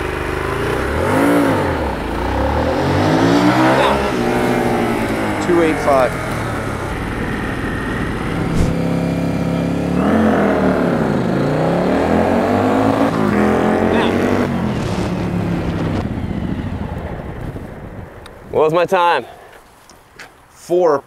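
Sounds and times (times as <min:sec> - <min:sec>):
motorcycle engine accelerating: 0:00.0 - 0:18.5.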